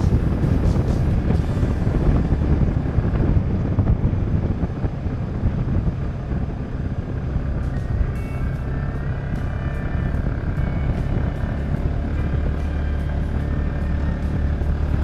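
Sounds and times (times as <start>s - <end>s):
engine running: 0.0s - 15.0s
wind noise on microphone: 0.0s - 15.0s.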